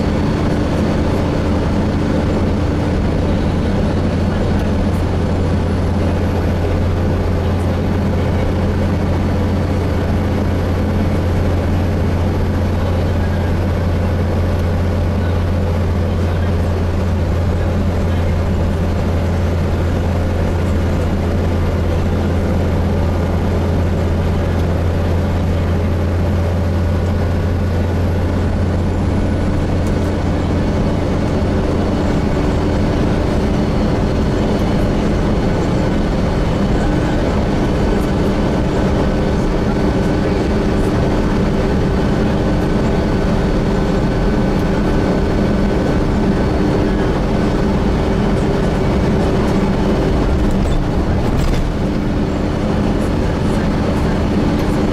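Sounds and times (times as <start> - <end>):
bus engine drone: 0.0 - 54.9
road noise: 0.0 - 54.9.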